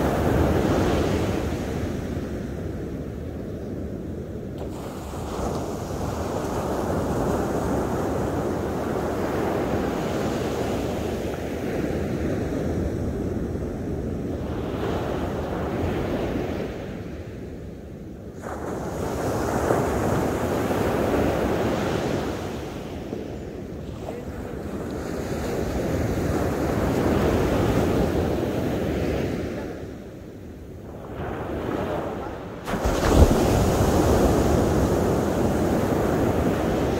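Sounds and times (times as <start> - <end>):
ocean waves breaking on beach: 0.0 - 36.9.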